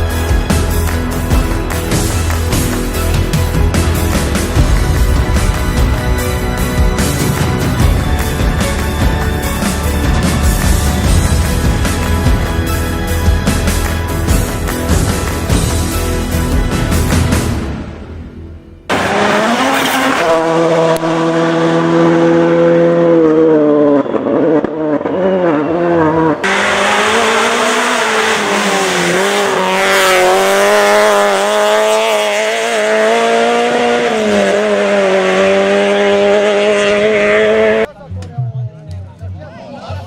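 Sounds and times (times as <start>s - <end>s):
rally car engines revving: 0.0s - 17.9s, 18.8s - 38.8s.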